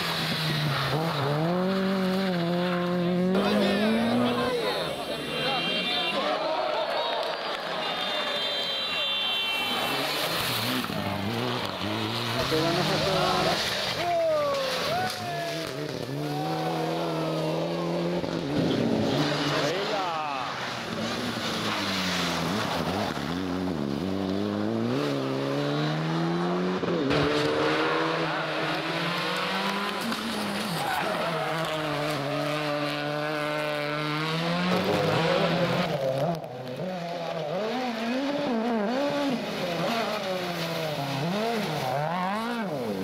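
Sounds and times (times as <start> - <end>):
rally car engines at full throttle: 0.0 - 43.0
tyres skidding: 0.0 - 43.0.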